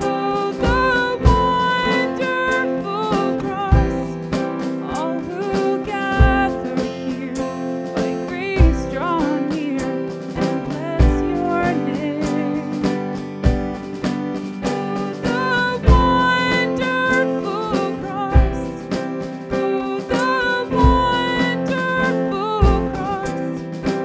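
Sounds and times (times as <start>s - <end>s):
woman singing into microphone: 0.0s - 13.2s, 14.6s - 24.0s
instrumental accompaniment: 0.0s - 24.0s.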